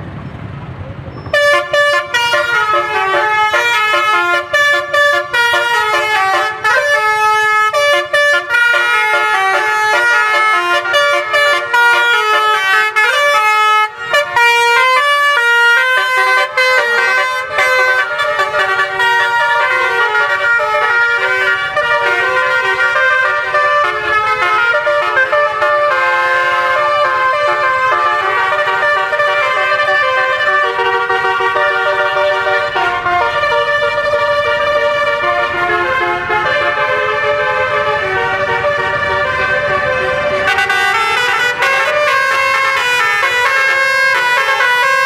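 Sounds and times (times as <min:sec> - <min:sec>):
multi-tone air horn melody: 0:01.3 - 0:45.0.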